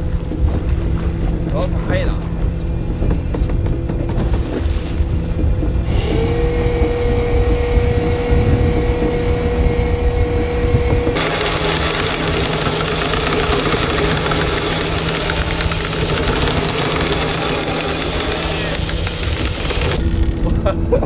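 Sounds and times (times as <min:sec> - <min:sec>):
boat engine low hum: 0:00.0 - 0:21.0
winch whine: 0:00.0 - 0:21.0.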